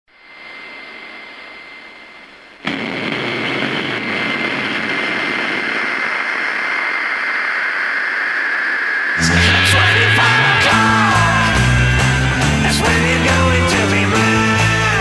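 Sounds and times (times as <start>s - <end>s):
thin high whine: 0.1s - 13.4s
rushing static noise: 0.1s - 13.6s.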